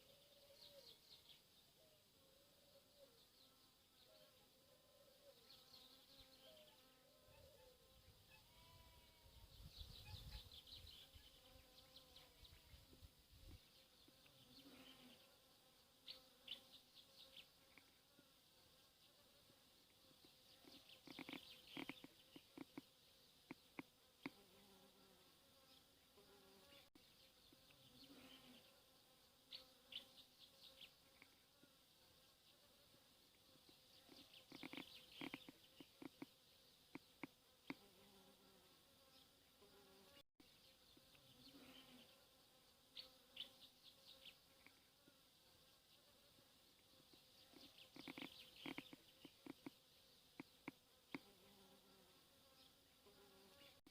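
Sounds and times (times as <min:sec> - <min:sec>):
small birds chirping: 0:00.0 - 0:51.8
insects buzzing: 0:00.0 - 0:53.9.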